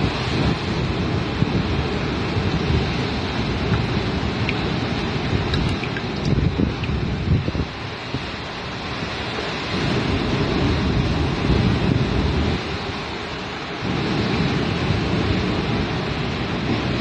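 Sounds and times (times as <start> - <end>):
sea surf rushing: 0.0 - 17.0
wind buffeting microphone: 0.0 - 17.0.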